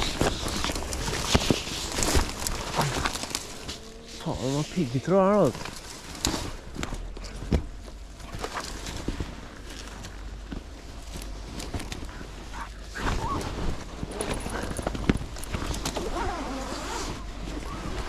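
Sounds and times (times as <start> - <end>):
brush and twigs snapping: 0.0 - 16.3.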